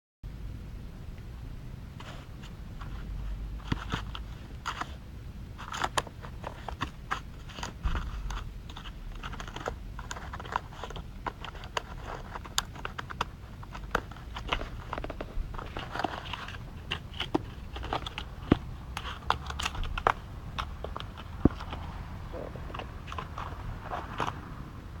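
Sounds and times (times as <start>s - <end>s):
low steady rumble: 0.3s - 25.0s.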